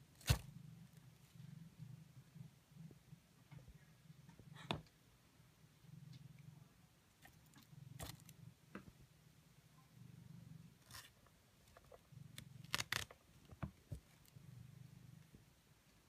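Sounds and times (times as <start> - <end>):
soft low hum: 0.0 - 16.0.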